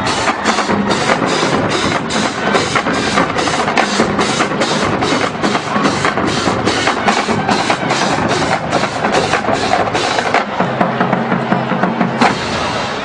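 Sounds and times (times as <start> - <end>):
bass drums: 0.0 - 13.0
cymbals: 0.0 - 13.0
snare drums: 0.0 - 13.0
tenor drums: 0.0 - 13.0.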